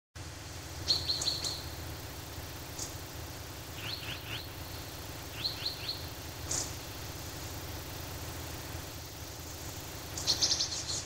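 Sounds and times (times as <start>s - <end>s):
steady low background noise: 0.2s - 11.0s
songbirds chirping: 0.3s - 11.0s.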